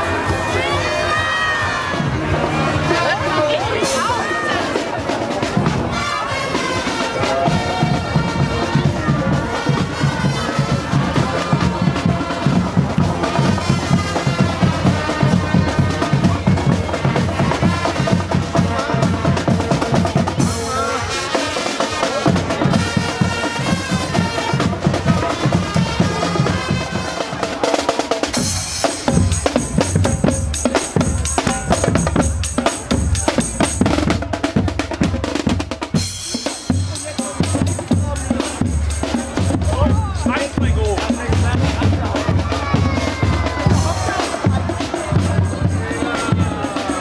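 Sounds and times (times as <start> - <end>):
parade music melody: 1.8 - 47.0
snare and bass drumming: 1.8 - 47.0.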